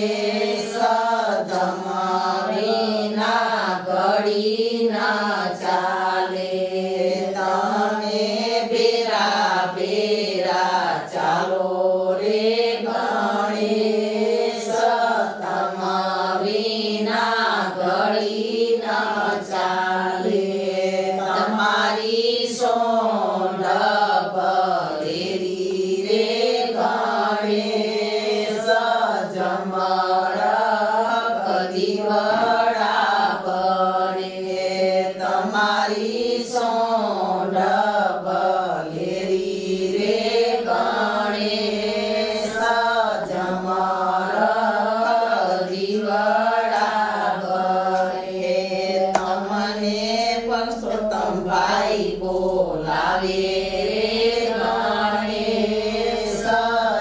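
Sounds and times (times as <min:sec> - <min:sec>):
women singing together: 0:00.0 - 0:57.0.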